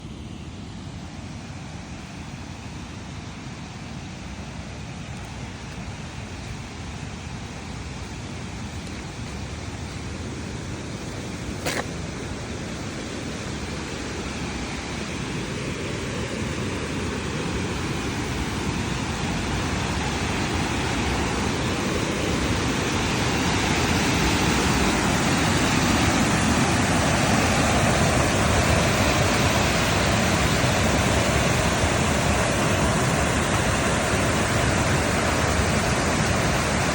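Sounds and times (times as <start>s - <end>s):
rushing water: 0.0s - 36.9s.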